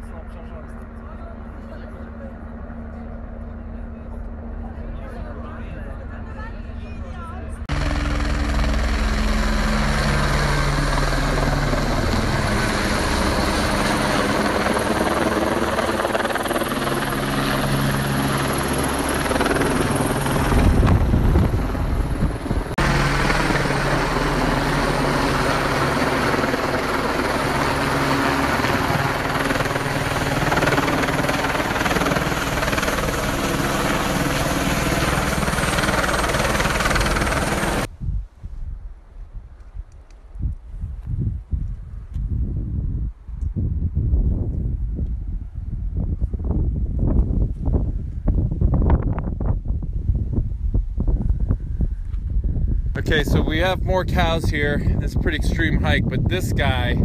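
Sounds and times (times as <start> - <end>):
helicopter rotor and turbine: 0.0 - 38.0, 39.6 - 57.0.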